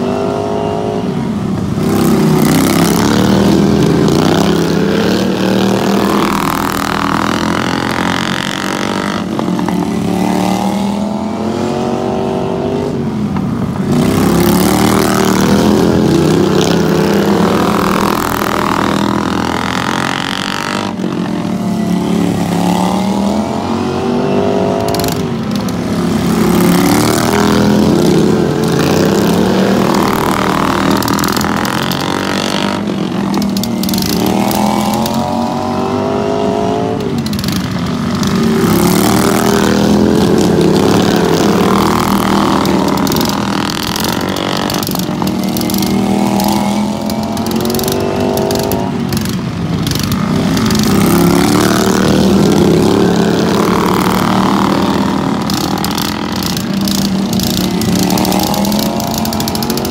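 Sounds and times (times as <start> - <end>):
lawn mower engines racing: 0.0 - 59.9.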